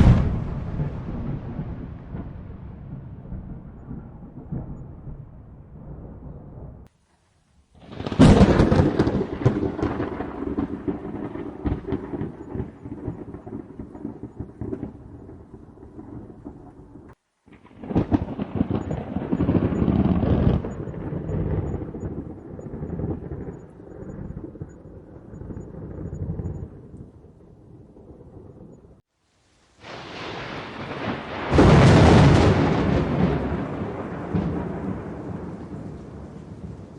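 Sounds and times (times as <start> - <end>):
thunder crack and rumble: 0.0 - 6.9, 7.8 - 29.0, 29.8 - 36.9.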